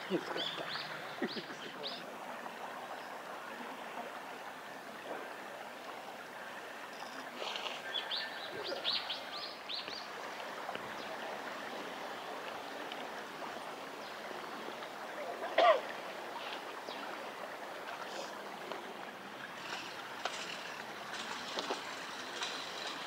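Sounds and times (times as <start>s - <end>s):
stream flowing over stones: 0.0s - 23.0s.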